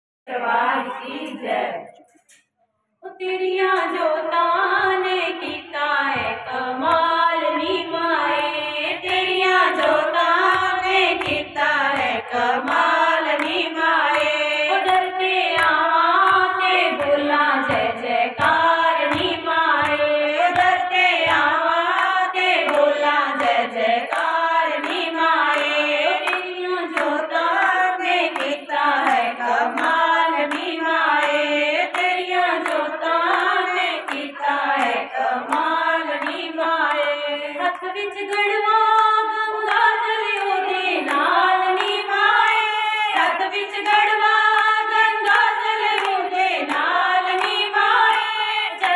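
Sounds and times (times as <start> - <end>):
women singing together: 0.3 - 2.1, 3.0 - 48.9
rhythmic hand-clapping: 3.7 - 48.9.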